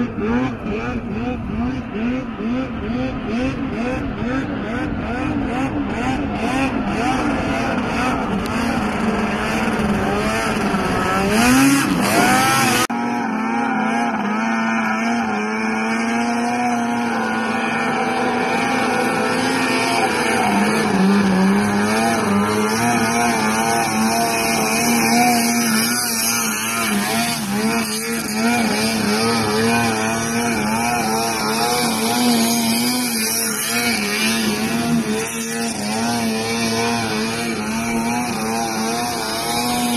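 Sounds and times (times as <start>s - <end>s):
snowmobile engines at high revs: 0.0s - 39.9s.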